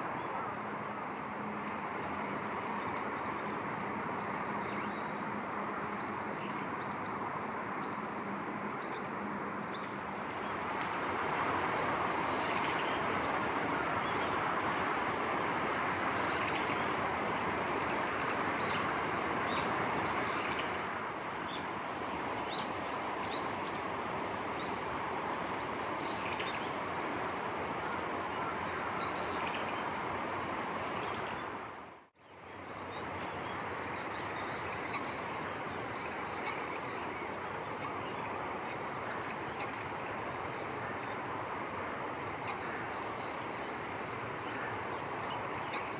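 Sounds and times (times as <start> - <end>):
steady background noise: 0.0 - 45.9.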